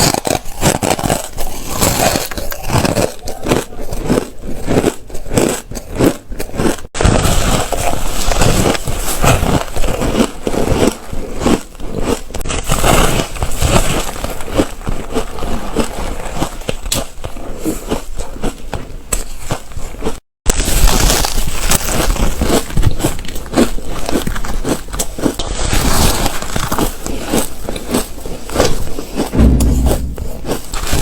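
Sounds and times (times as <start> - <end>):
ice crunching while chewed: 0.0 - 29.5.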